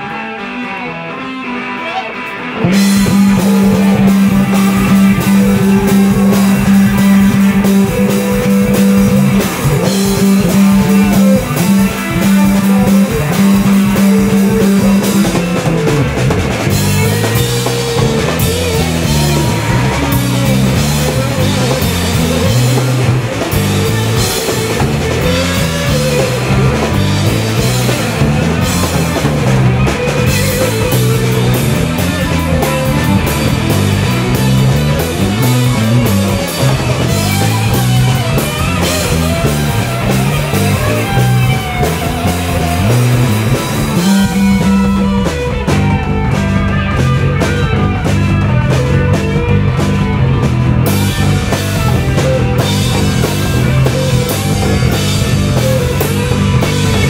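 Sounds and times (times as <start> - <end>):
bass guitar: 0.0 - 57.0
drums: 0.0 - 57.0
electric guitars: 0.0 - 57.0.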